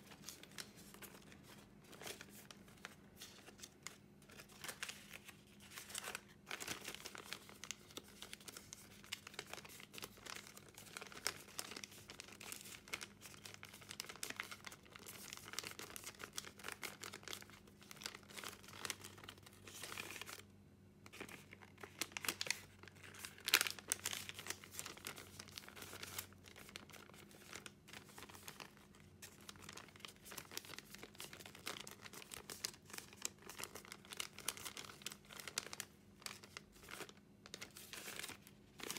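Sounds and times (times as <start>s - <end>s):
paper crackle: 0.0s - 20.5s, 21.1s - 38.9s
paper rustling and crinkling: 0.0s - 20.5s, 21.1s - 38.9s.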